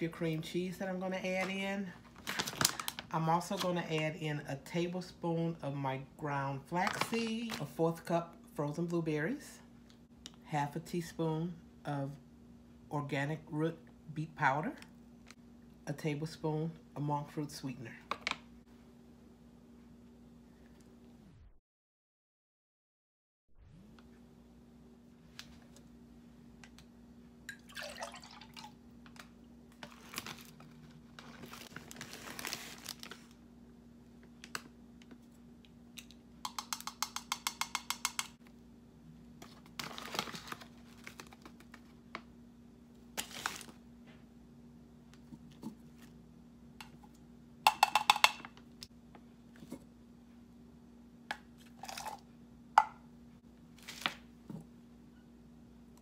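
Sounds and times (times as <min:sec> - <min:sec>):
faint steady hum: 0:00.0 - 0:21.6, 0:23.7 - 0:56.0.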